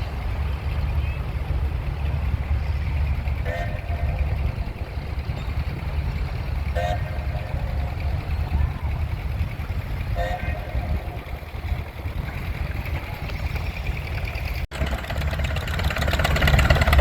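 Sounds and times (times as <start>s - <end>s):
low rumble of engines: 0.0s - 17.0s.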